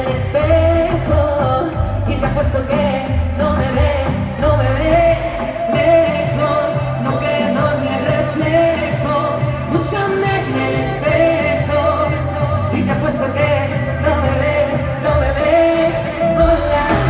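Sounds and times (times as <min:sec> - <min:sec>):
live pop band playing: 0:00.0 - 0:17.0.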